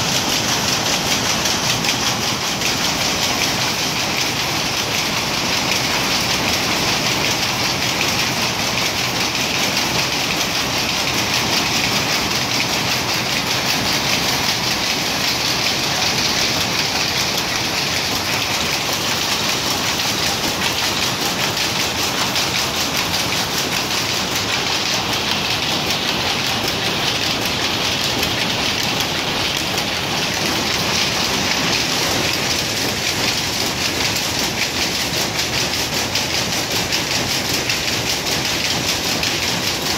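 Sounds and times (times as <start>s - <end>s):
power loom clattering: 0.0s - 39.9s.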